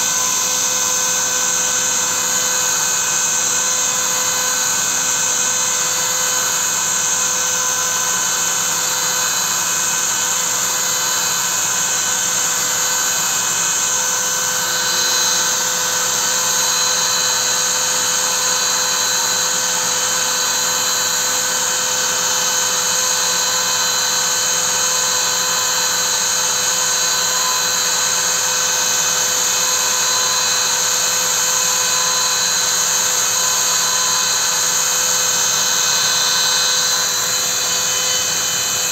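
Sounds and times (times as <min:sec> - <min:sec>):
router motor whining while cutting wood: 0:00.0 - 0:38.9.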